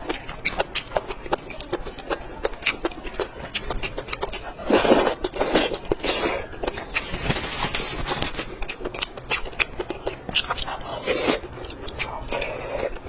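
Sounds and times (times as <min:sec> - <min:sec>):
noisy mouth sounds: 0:00.0 - 0:13.0
person chewing food: 0:00.0 - 0:13.0.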